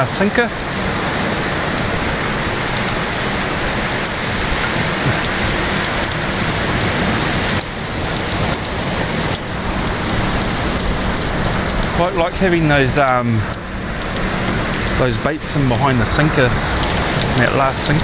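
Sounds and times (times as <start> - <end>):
fine crackling: 0.0 - 18.0
wind noise on microphone: 0.0 - 18.0.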